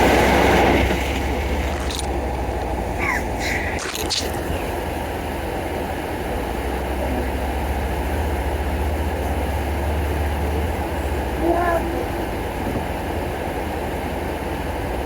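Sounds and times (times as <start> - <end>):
farm vehicle engine rumbling: 0.0 - 15.0.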